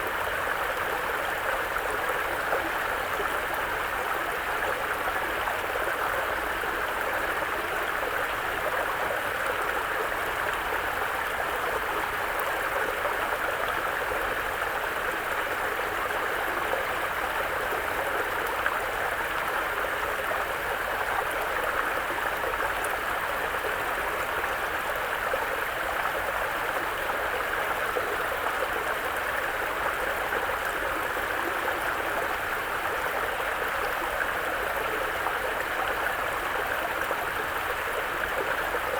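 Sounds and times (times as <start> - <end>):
brook flowing over rocks: 0.0 - 38.9.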